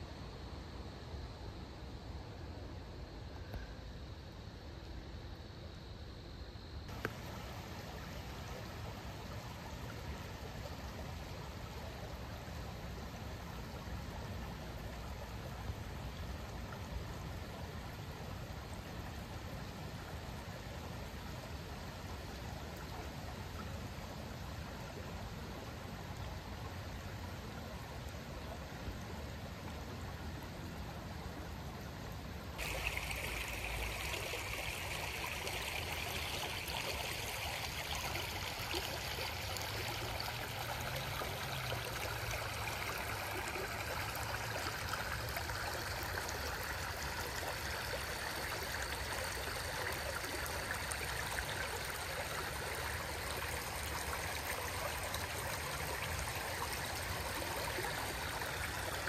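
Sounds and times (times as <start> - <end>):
creek babbling over stones: 6.9 - 59.0.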